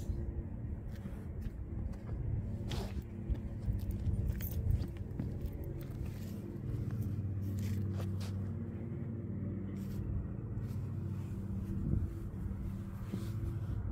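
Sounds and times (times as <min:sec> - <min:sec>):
engine humming: 0:00.0 - 0:13.9.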